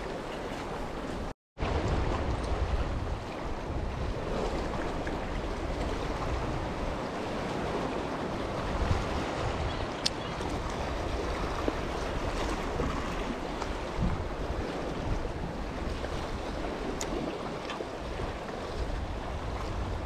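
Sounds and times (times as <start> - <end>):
waves washing against rocks: 0.0 - 20.0
wind buffeting microphone: 0.0 - 20.0.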